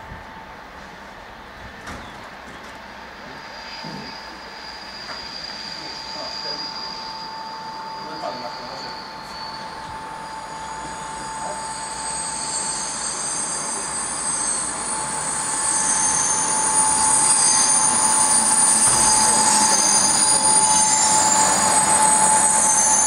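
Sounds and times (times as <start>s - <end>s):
electric train tone: 0.0s - 23.0s
train wheels rumbling: 0.0s - 23.0s
high-pitched squeals: 3.2s - 23.0s.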